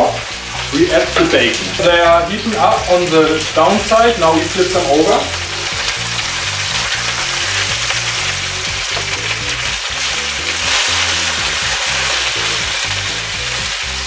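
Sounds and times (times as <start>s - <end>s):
bacon frying: 0.0s - 14.0s
meat sizzling in hot oil: 0.0s - 14.0s.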